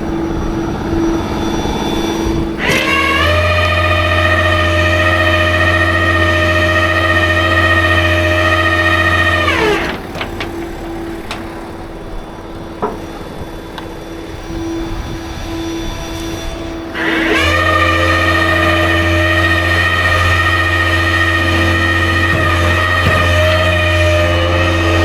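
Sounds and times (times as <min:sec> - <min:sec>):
steady hum: 0:00.0 - 0:25.0
truck engine revving: 0:00.0 - 0:25.0.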